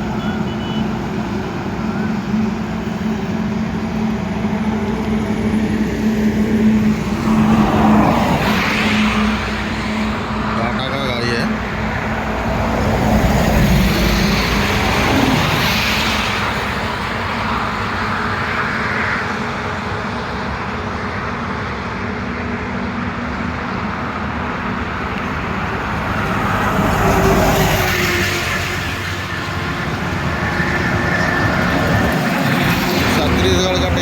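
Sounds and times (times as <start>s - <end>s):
trucks passing on highway: 0.0s - 34.0s.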